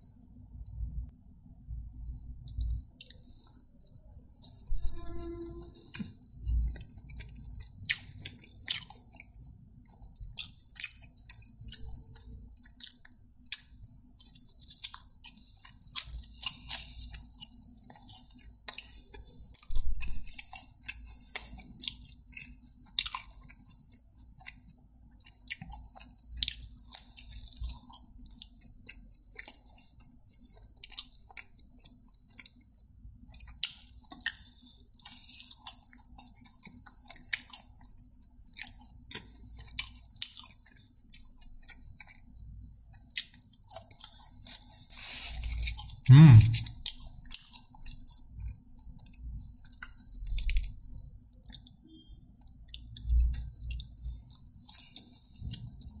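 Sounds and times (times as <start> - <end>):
person chewing crisp food: 2.0 - 56.0.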